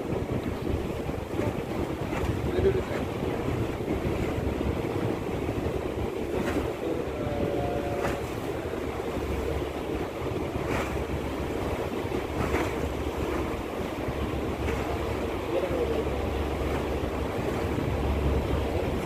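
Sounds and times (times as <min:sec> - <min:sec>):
ferry engine rumble: 0:00.0 - 0:19.0
water noise: 0:00.0 - 0:19.0
wind on microphone: 0:00.0 - 0:19.0.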